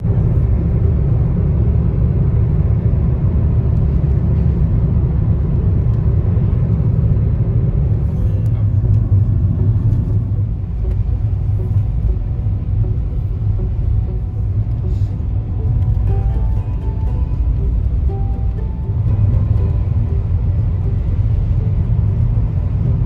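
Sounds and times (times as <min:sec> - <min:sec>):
loud low rumble: 0:00.0 - 0:23.0.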